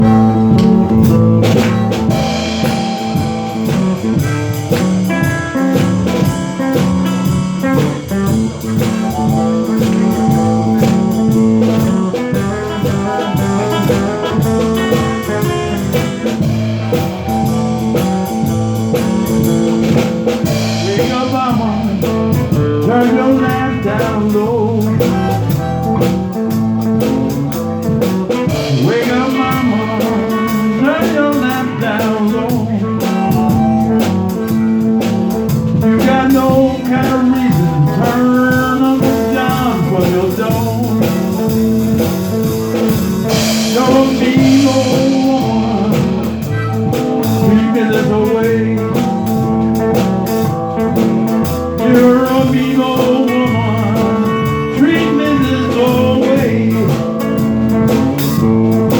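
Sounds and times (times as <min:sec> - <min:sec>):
blues band instrumental: 0:00.0 - 0:58.9
guitar: 0:00.0 - 0:58.9.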